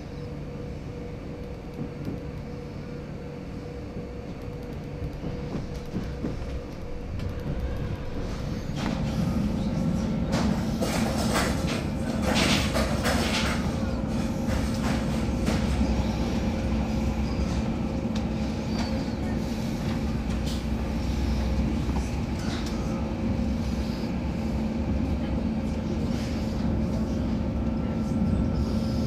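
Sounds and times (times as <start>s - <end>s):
low hum: 0.0s - 29.0s
train wheels rumbling on rails: 0.0s - 29.0s.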